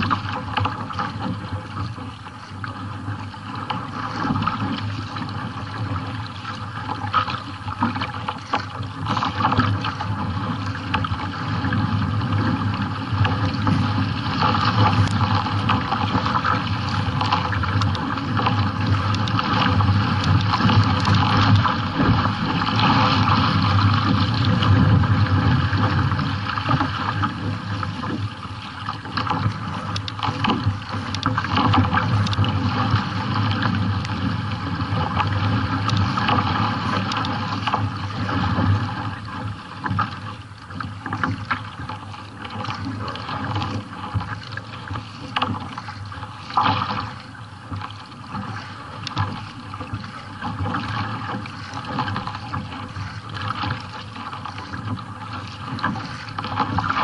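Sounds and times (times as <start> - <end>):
paddle stroke splashes: 0.0 - 57.0
water splashing against kayak hull: 0.0 - 57.0.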